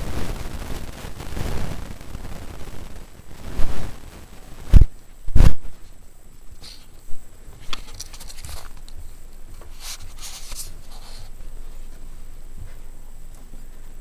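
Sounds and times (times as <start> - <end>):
rustling: 0.6 - 14.0.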